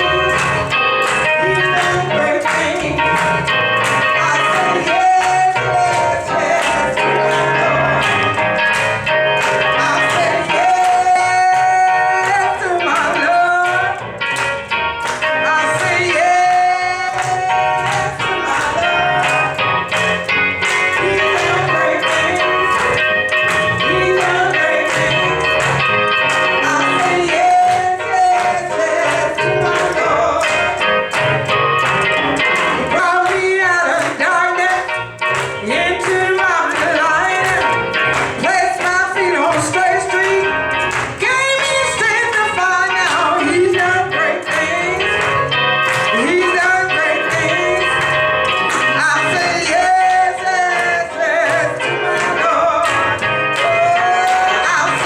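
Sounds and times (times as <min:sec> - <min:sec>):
organ chords: 0:00.0 - 0:55.0
person singing: 0:01.2 - 0:08.4, 0:09.5 - 0:14.0, 0:15.3 - 0:19.6, 0:20.9 - 0:30.9, 0:32.8 - 0:55.0.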